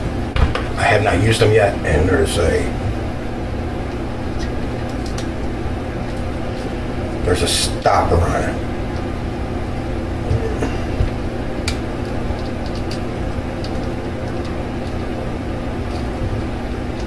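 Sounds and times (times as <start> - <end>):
room fan humming: 0.0 - 17.0.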